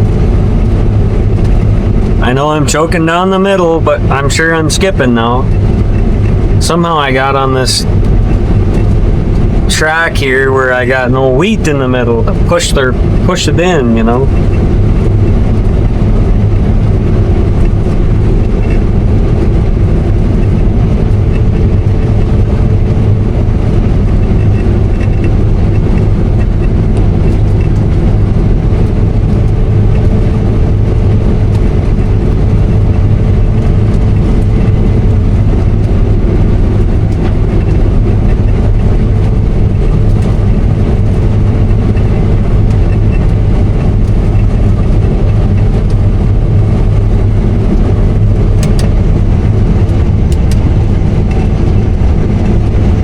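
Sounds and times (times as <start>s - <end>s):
combine harvester drone: 0.0s - 53.0s
faint steady whine: 0.0s - 53.0s.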